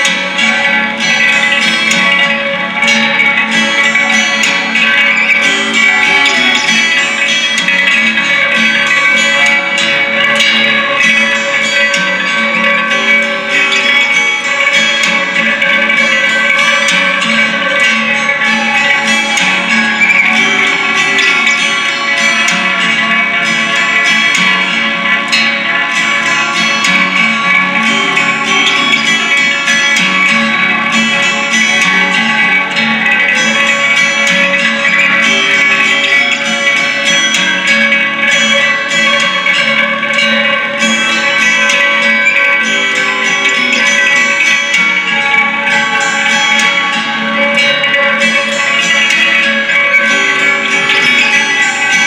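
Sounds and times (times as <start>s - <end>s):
sustained pitched tones: 0.0s - 52.0s.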